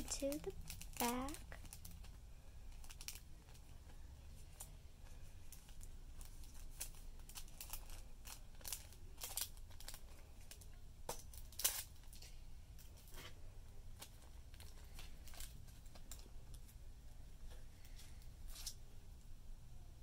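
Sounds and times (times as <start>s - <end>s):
plastic sleeve crinkling: 0.0s - 16.8s.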